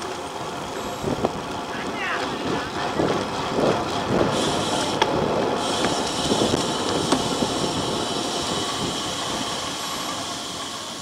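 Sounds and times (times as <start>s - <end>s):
bike tyre noise: 0.0s - 11.0s
rushing wind: 0.0s - 11.0s.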